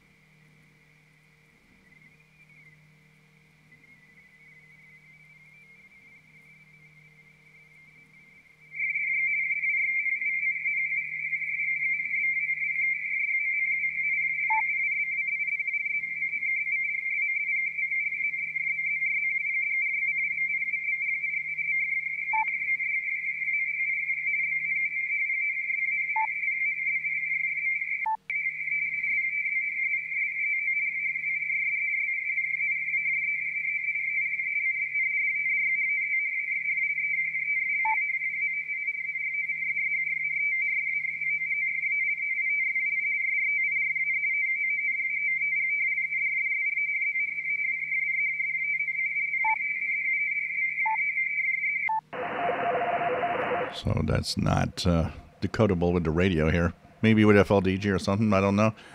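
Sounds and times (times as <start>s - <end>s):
two-tone data signal warble: 3.8s - 57.4s.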